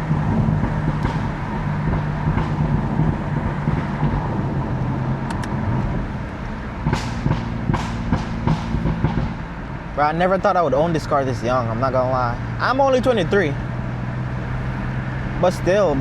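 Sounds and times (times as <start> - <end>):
car engine running at steady revs: 0.0 - 16.0
tyre and road noise: 0.0 - 16.0.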